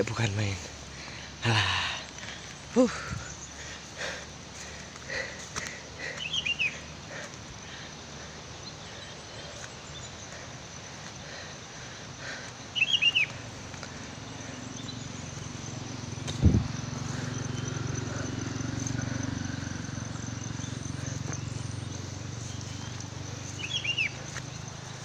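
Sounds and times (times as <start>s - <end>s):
small bird chirping: 2.0s - 11.8s, 12.4s - 25.0s.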